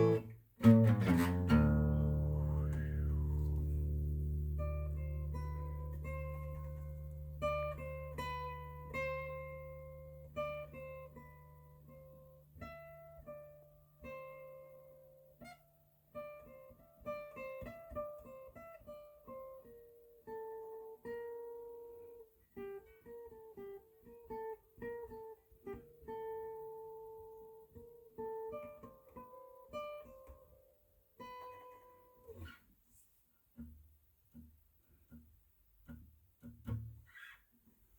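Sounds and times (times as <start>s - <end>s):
acoustic guitar slow melody: 0.0s - 37.9s.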